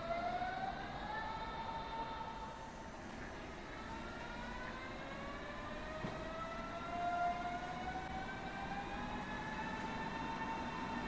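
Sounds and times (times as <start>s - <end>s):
electric train motor whine rising: 0.0s - 11.0s.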